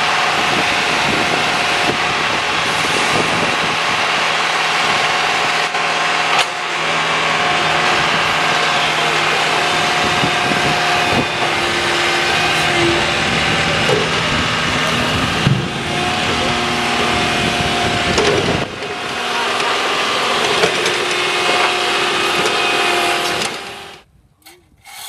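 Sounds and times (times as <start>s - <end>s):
backhoe engine running: 0.0s - 25.0s.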